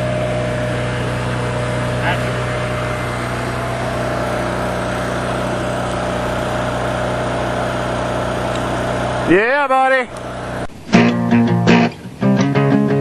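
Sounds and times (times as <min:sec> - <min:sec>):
welder engine humming: 0:00.0 - 0:12.7.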